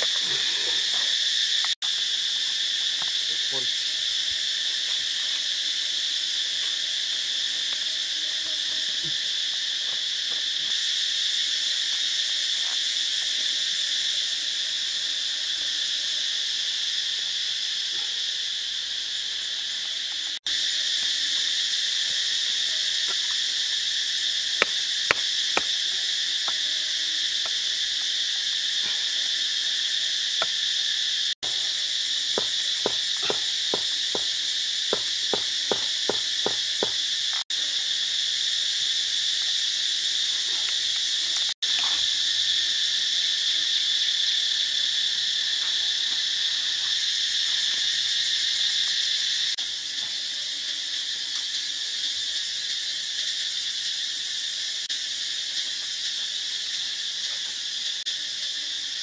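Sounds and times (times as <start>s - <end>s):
insects shrilling: 0.0s - 59.0s.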